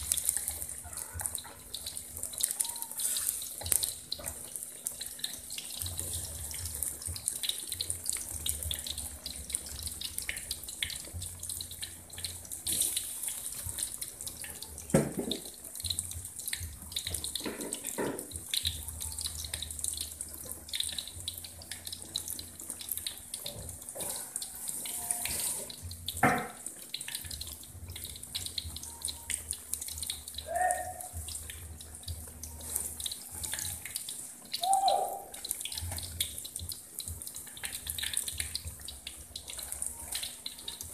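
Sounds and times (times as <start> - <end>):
crackling sizzle of frying: 0.0 - 40.9.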